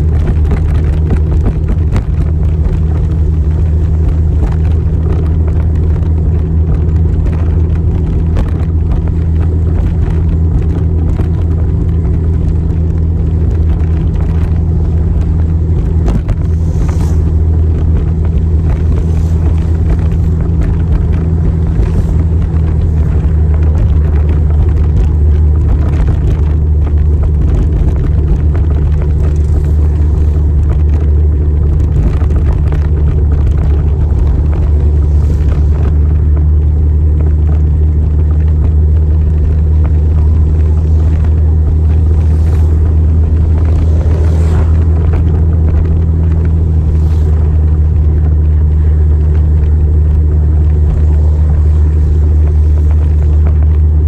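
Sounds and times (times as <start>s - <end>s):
motorcycle engine rumble: 0.0s - 54.0s.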